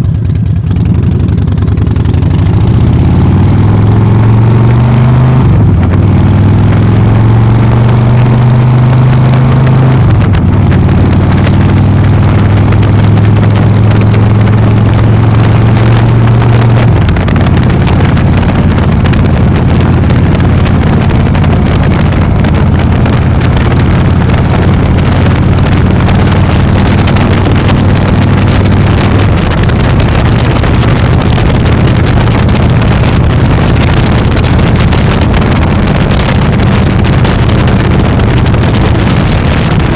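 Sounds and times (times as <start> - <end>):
motor scooter engine running: 0.0 - 39.9.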